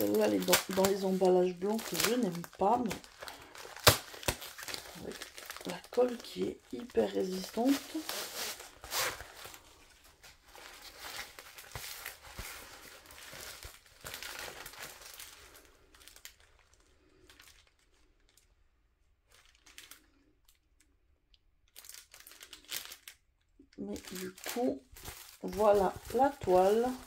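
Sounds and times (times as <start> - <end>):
packaging crinkling and tearing: 0.0 - 18.6, 19.2 - 20.9, 21.6 - 27.0.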